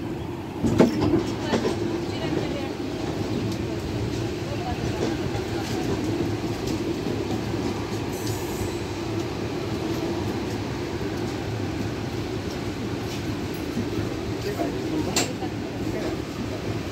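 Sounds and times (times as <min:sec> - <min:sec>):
train coaches rumbling on rails: 0:00.0 - 0:16.9.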